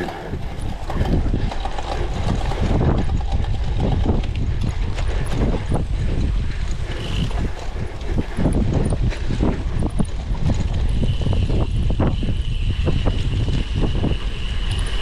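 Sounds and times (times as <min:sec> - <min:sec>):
bike rattling over rough ground: 0:00.0 - 0:15.0
wind rumble on microphone: 0:00.0 - 0:15.0.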